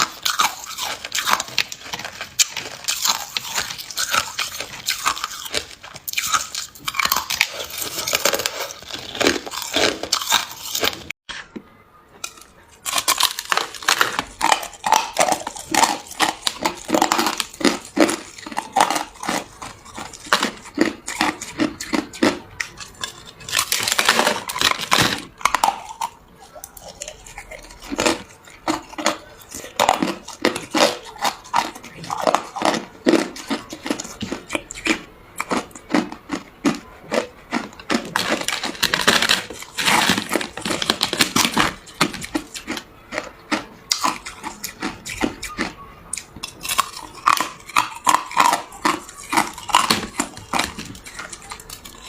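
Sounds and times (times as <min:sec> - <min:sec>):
person crunching ice: 0:00.0 - 0:11.2, 0:12.2 - 0:52.0.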